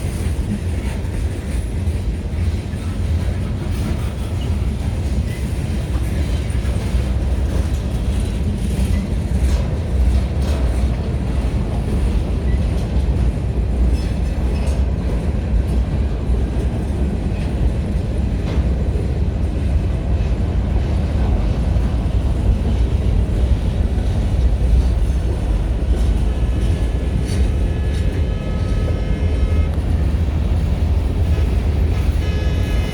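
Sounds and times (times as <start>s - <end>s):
freight train rumbling: 0.0s - 32.9s
wheels clicking over rail joints: 0.0s - 32.9s.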